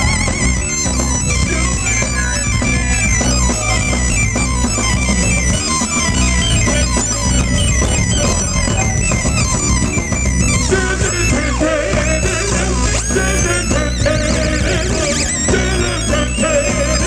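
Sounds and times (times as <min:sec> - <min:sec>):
electric bass groove: 0:00.0 - 0:17.0
funk band playing: 0:00.0 - 0:17.0
keyboard notes: 0:00.0 - 0:17.0.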